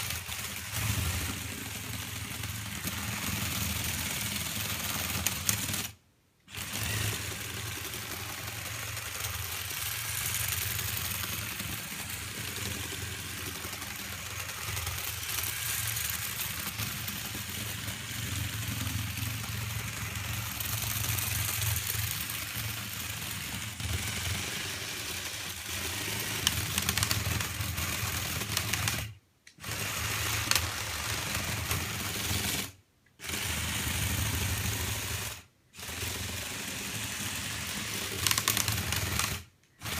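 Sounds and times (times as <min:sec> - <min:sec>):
toy electric motors whirring: 0:00.0 - 0:39.9.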